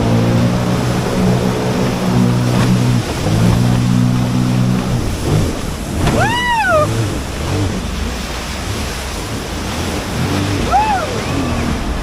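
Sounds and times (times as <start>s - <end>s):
boat engine running: 0.0s - 12.0s
surf: 0.0s - 12.0s.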